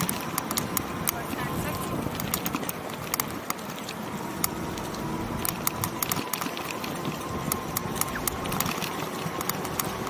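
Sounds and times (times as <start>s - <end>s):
bike rattling clicks: 0.0s - 10.0s
tyres and wind rumble: 0.0s - 10.0s.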